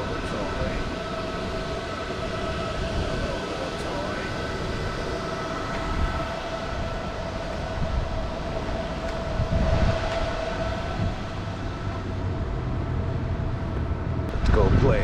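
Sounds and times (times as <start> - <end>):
electric motor whine: 0.0 - 14.0
wind buffeting microphone: 0.0 - 15.0.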